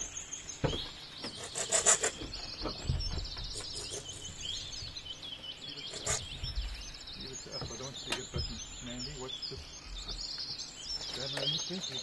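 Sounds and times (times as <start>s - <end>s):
bird trilling: 0.0s - 12.0s.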